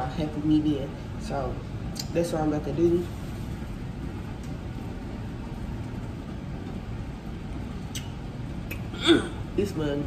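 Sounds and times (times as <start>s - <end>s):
kitchen low rumble with hiss: 0.0s - 10.0s.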